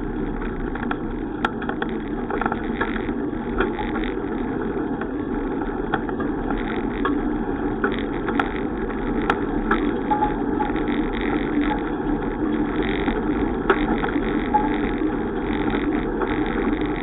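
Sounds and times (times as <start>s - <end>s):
bicycle road and wind rumble: 0.0s - 17.0s
faint steady hum: 0.0s - 17.0s
sharp clicks and rattles: 0.0s - 17.0s.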